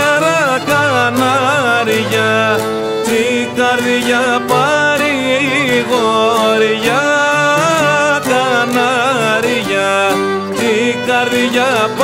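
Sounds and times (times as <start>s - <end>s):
plucked lutes: 0.0s - 12.0s
violin folk melody: 0.0s - 12.0s.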